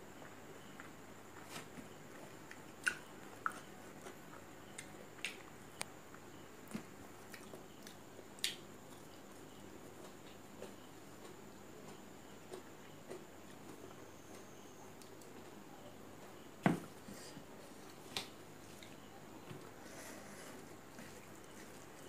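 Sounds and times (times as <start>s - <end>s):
person chewing rice: 0.2s - 15.6s, 19.6s - 22.0s.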